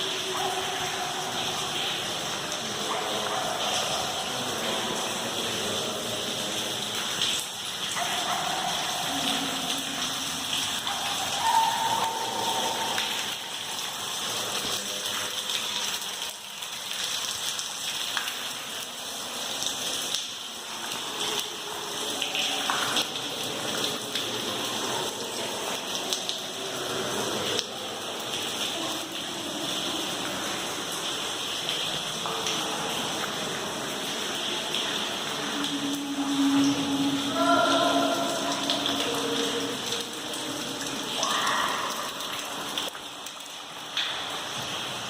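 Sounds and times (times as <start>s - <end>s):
faint echoing voices: 0.0s - 45.0s
water dripping in a tunnel: 0.0s - 45.0s.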